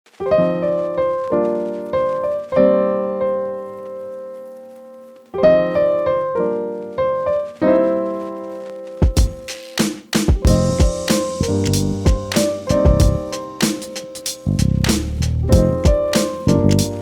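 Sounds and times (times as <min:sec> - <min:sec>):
slow piano chords: 0:00.1 - 0:09.6, 0:10.3 - 0:17.0.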